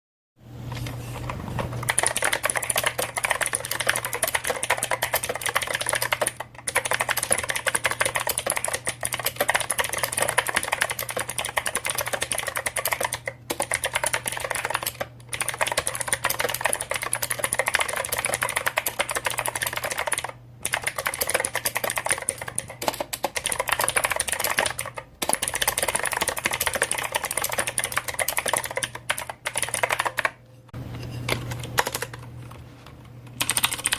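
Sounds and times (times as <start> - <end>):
mechanical keyboard typing: 1.8 - 30.4, 31.5 - 32.6, 33.2 - 33.9.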